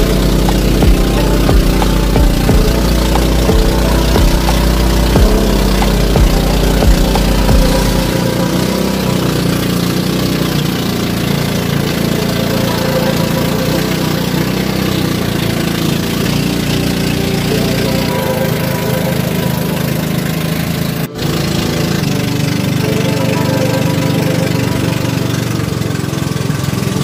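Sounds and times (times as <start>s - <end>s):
small boat engine running: 0.0s - 27.0s
water hissing along hull: 0.0s - 27.0s.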